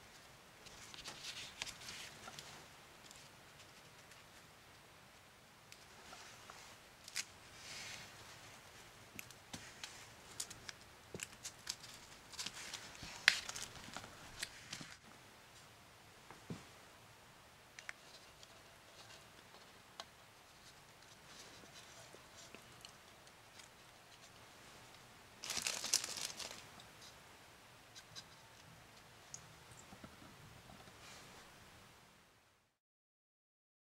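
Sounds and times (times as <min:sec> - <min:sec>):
soft rustle: 0:00.0 - 0:16.9, 0:17.8 - 0:27.2, 0:27.9 - 0:31.7.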